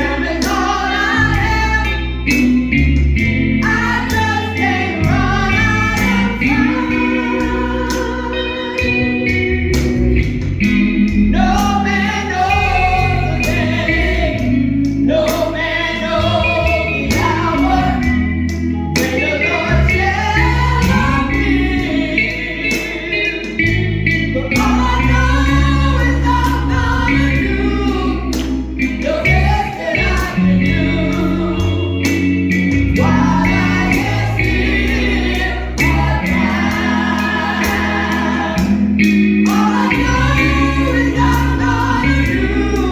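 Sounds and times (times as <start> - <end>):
gospel singing with instruments: 0.0 - 42.9
steady bass line: 0.0 - 42.9.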